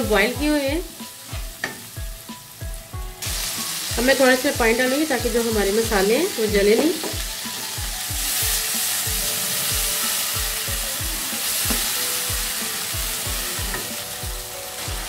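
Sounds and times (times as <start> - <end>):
background music with steady beat: 0.0 - 15.0
food sizzling in a wok: 0.0 - 15.0.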